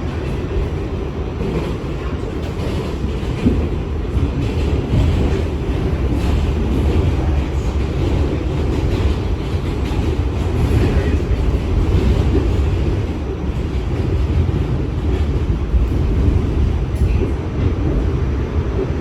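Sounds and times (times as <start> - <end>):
subway train rumbling on track: 0.0 - 19.0.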